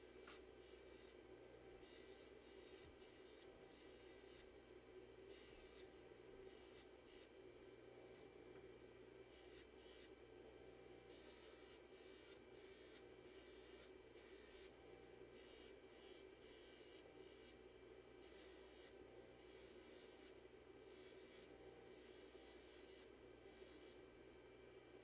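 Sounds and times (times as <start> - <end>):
faint motor hum: 0.0 - 25.0.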